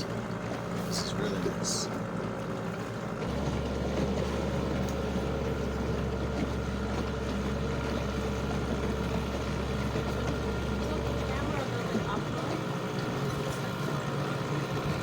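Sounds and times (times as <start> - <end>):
small boat motor running: 0.0 - 15.0.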